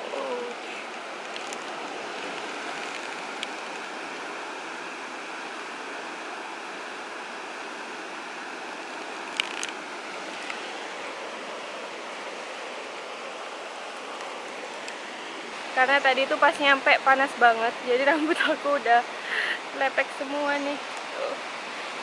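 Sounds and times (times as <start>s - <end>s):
sea surf: 0.0s - 22.0s.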